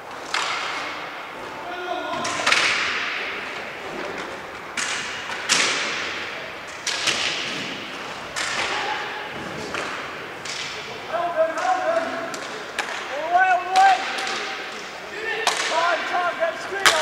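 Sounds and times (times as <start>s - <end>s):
hockey sticks and puck cracking: 0.0s - 17.0s.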